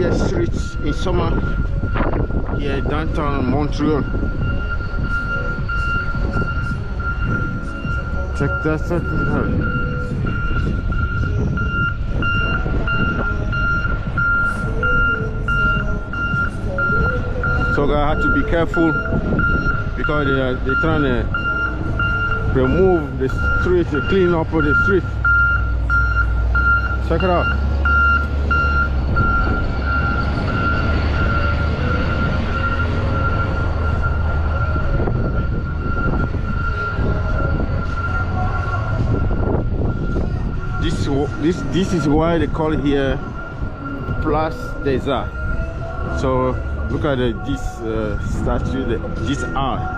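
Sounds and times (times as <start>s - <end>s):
engine rumble and street noise: 0.0s - 49.9s
reversing alarm beeping: 0.0s - 49.9s.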